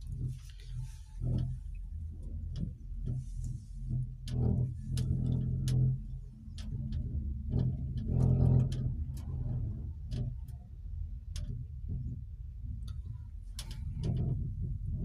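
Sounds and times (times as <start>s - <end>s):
cable car cabin rumble: 0.0s - 15.0s.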